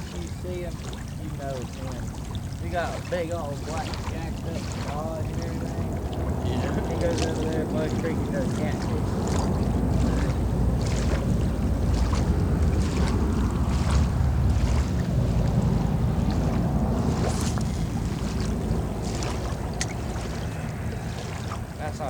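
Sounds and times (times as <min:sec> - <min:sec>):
moving water: 0:00.0 - 0:22.0
wind buffeting microphone: 0:00.0 - 0:22.0.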